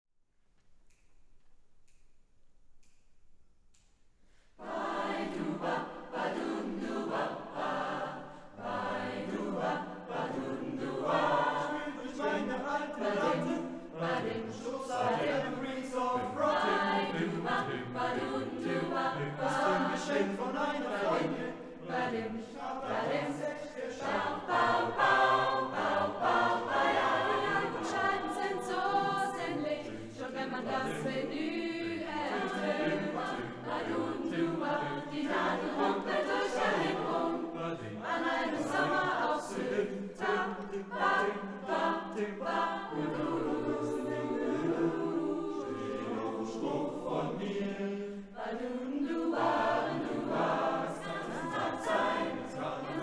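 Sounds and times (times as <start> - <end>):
choir singing a swing number: 4.5 - 53.0.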